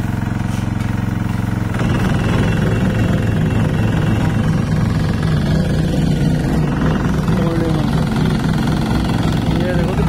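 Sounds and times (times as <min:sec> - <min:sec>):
small engine of road roller running: 0:00.0 - 0:10.0.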